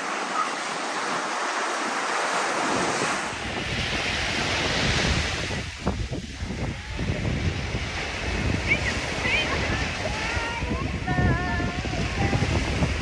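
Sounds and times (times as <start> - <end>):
sea surf washing ashore: 0.0 - 13.0
wind buffeting microphone: 0.0 - 13.0.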